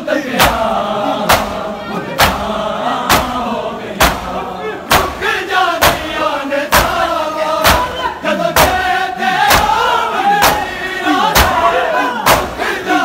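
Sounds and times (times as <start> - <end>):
chanted lament: 0.0 - 13.0
crowd slapping chests: 0.2 - 13.0.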